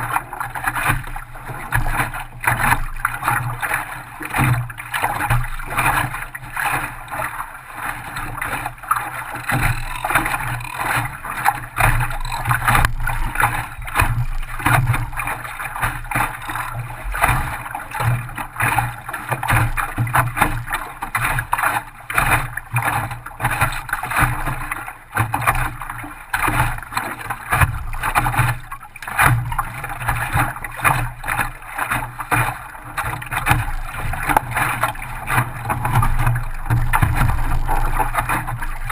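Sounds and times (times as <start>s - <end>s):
small water splashes: 0.0s - 38.9s
water slapping against boat hull: 0.0s - 38.9s.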